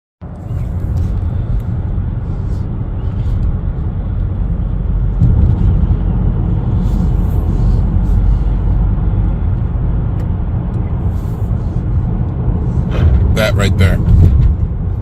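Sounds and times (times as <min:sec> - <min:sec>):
car road and engine rumble: 0:00.2 - 0:15.0.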